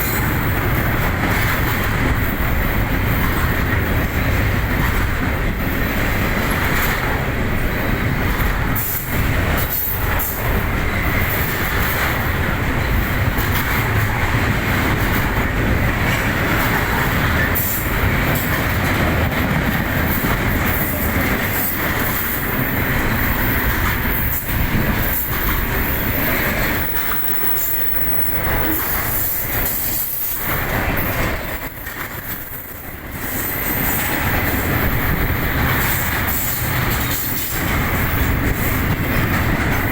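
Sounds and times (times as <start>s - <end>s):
train cars rumbling past: 0.0s - 39.9s
wheels clicking over rail joints: 0.0s - 39.9s.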